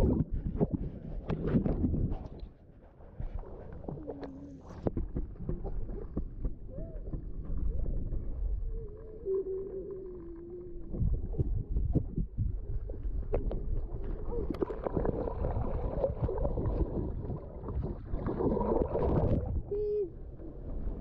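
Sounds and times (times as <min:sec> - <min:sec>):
underwater sloshing and knocks: 0:00.0 - 0:19.8.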